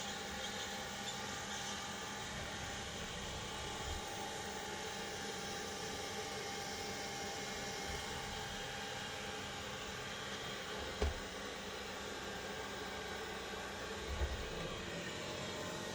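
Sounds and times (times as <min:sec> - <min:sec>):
robot vacuum cleaner running: 0:00.0 - 0:15.9.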